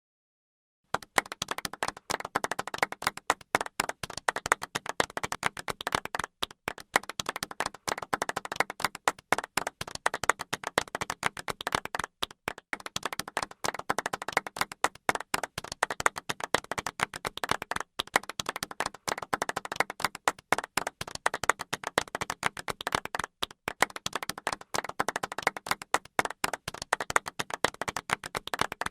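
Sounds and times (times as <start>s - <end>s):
group clapping restrained: 0.9s - 28.9s.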